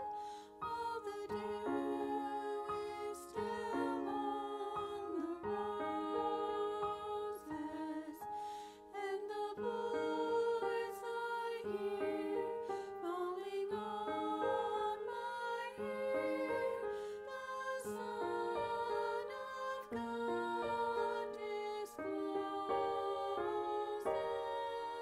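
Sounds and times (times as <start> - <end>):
gentle instrumental hymn chords: 0.0 - 25.0.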